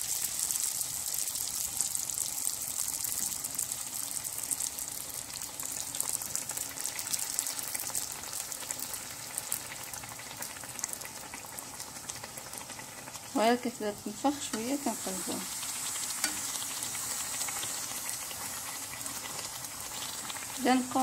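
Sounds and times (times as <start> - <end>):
dough sizzling in hot oil: 0.0 - 21.0.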